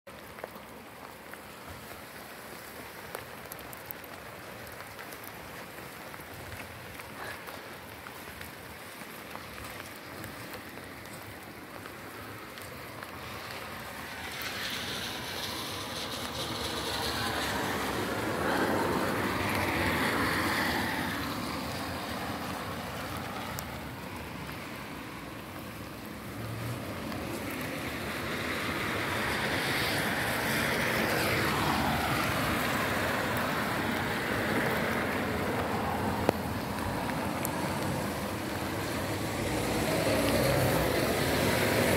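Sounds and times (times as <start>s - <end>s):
tyre hiss on wet road: 0.1s - 41.9s.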